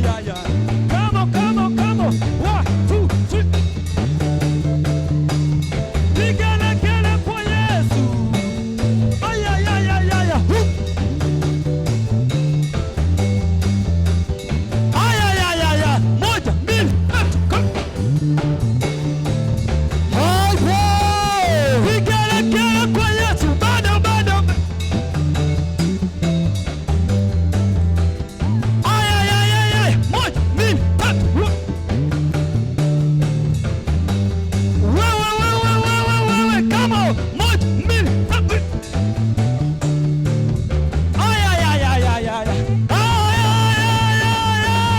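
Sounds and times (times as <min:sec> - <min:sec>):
bass line: 0:00.0 - 0:44.9
steady drum beat: 0:00.0 - 0:44.9.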